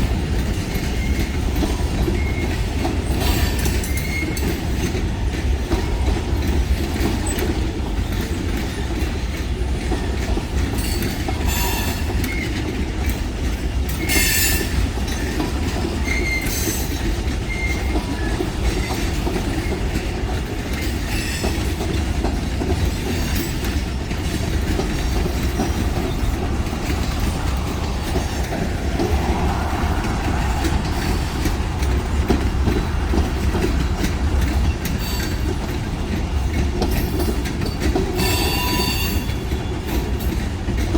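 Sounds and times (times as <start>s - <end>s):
freight train rumbling: 0.0s - 40.9s
train cars clanking: 0.0s - 40.9s
train wheel squeals: 0.2s - 40.9s.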